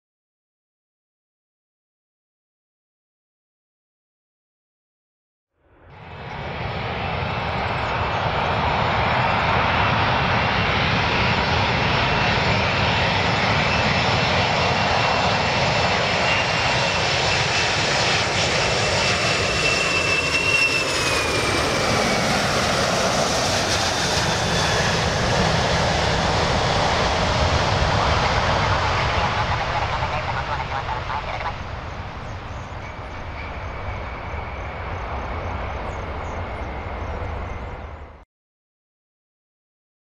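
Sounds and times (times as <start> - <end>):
faint high engine whine: 5.6 - 38.2
jet airliner rumble and roar: 5.6 - 38.2.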